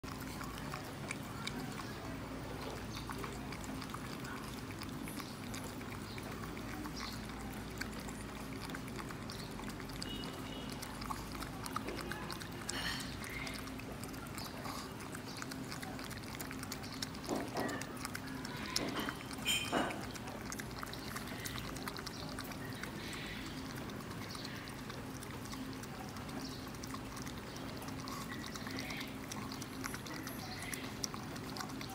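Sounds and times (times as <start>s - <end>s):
dog lapping milk from metal bowl: 0.0s - 31.9s.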